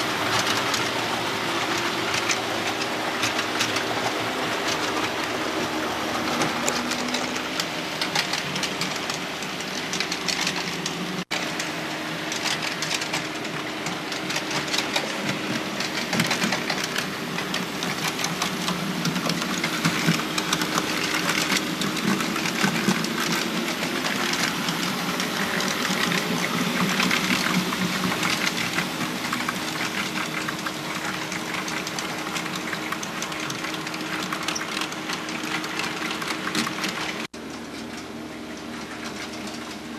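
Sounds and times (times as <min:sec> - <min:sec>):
model train motor hum: 0:00.0 - 0:37.3
wheels clicking over rails: 0:00.0 - 0:39.9.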